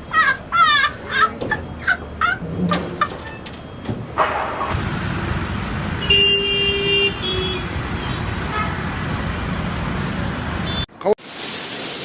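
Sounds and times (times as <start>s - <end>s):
engine or traffic rumble: 0.0s - 10.9s.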